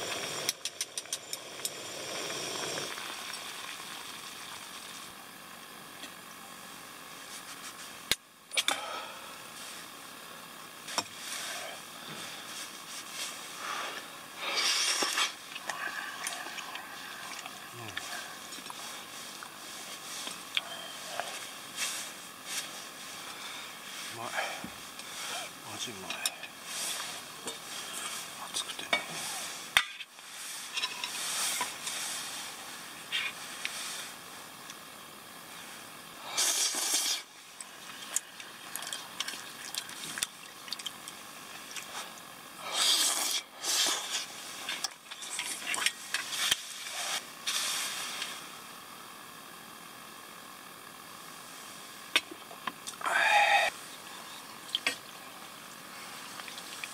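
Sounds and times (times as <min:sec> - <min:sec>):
gas stove hissing: 0:00.0 - 0:40.4, 0:41.2 - 0:56.9.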